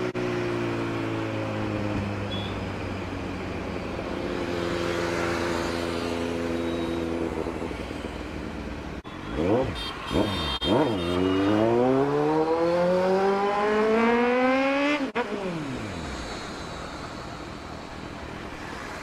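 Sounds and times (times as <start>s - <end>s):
motorcycle engine and exhaust: 0.0s - 17.9s.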